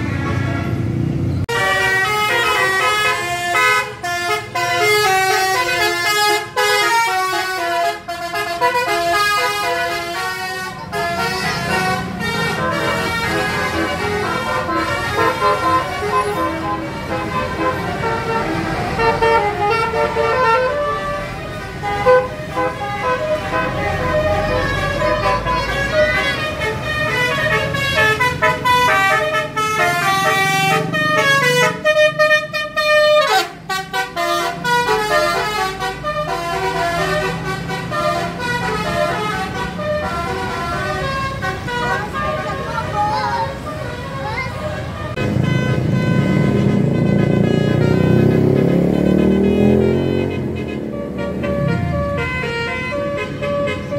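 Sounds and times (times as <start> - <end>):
bus engine running: 0.0 - 53.9
multi-tone bus horn melody: 0.0 - 53.9.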